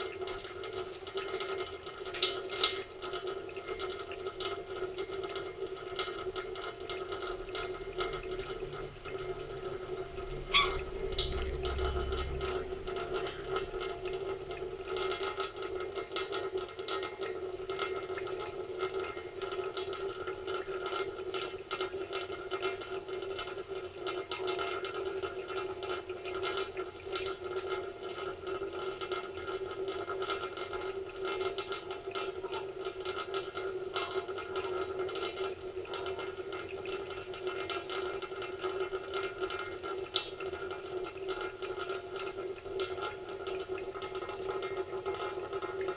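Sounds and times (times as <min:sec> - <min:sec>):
tap water running into sink: 0:00.0 - 0:45.9.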